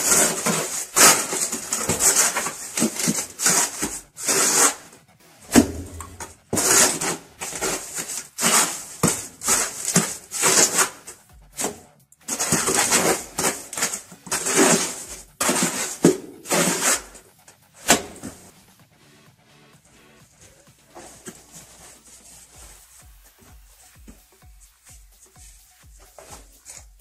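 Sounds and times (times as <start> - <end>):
trowel scraping mortar: 0.0 - 18.5, 20.4 - 24.0, 26.0 - 26.9.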